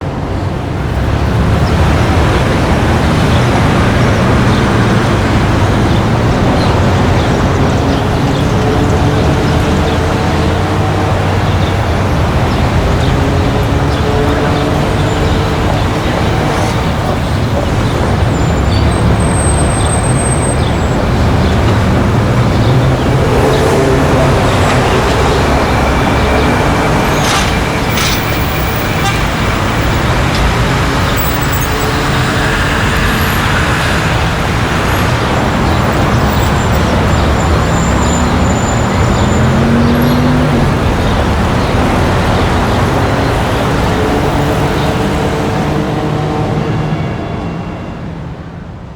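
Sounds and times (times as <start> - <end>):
passing cars and buses: 0.0 - 48.9.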